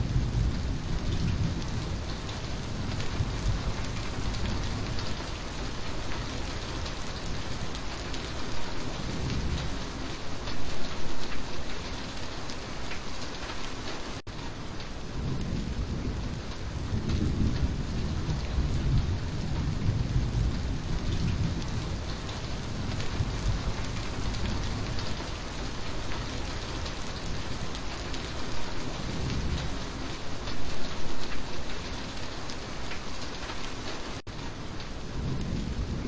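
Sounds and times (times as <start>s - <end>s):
thunder rumbling: 0.0s - 11.7s, 14.5s - 36.0s
steady rain: 0.0s - 36.0s.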